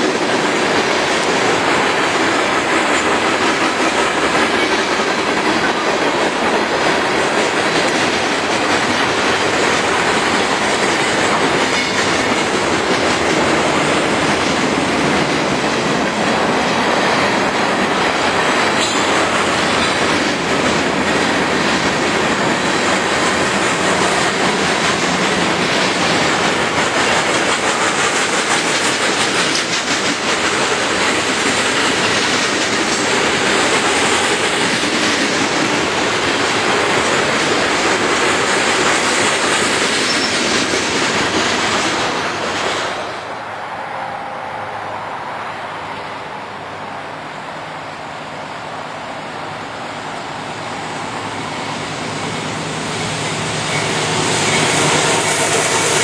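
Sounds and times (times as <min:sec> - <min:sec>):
approaching train rumble: 0:00.0 - 0:56.0
freight train cars rolling past: 0:00.0 - 0:56.0.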